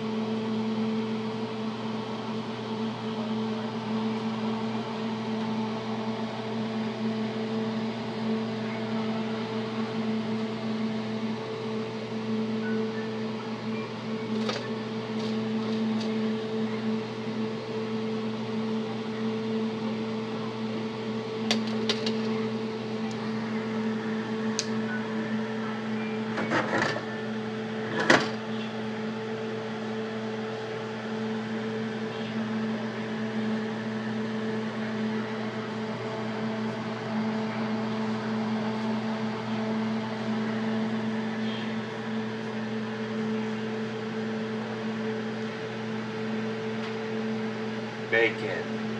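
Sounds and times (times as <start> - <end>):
machine hum: 0.0 - 48.9.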